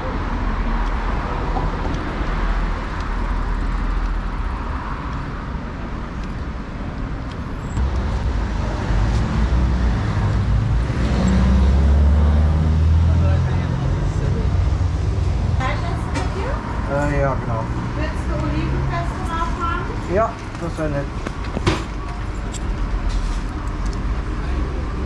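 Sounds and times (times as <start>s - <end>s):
cars passing on busy road: 0.0s - 25.0s
vehicle engine rumble: 0.0s - 25.0s.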